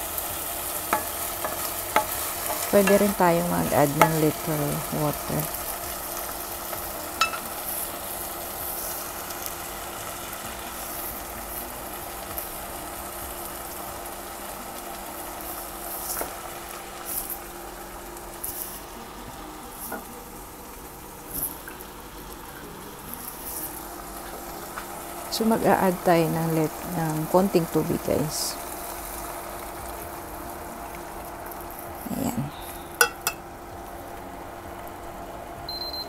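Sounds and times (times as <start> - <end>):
faint steady hum: 0.0 - 36.0
food sizzling in a wok: 0.0 - 36.0.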